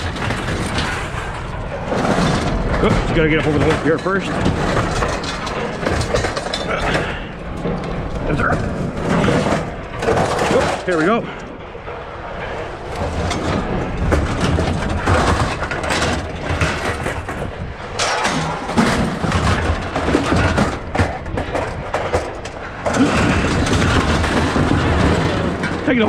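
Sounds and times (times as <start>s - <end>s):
scrap metal clattering: 0.0s - 26.0s.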